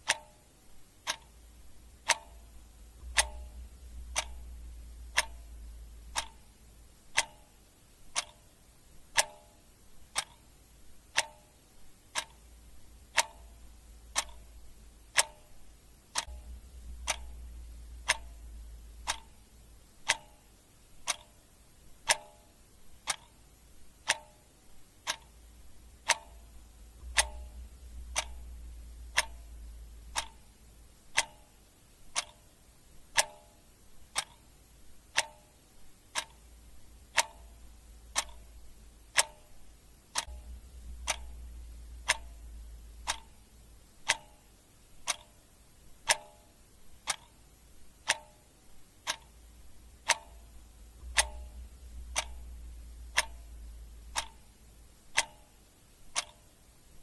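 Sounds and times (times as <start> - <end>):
faint low rumble: 0.0 - 57.0
mechanical clock ticking: 0.0 - 57.0.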